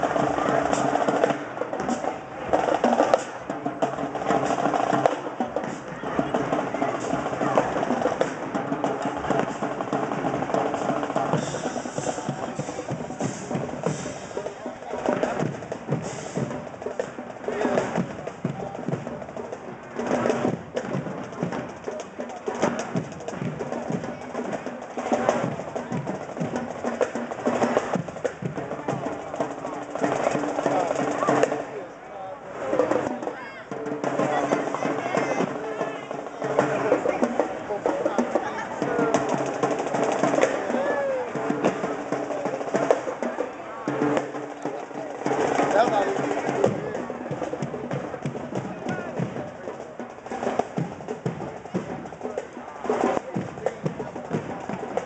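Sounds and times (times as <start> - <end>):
marching band horns: 0.0 - 55.0
snare and bass drums cadence: 0.0 - 55.0.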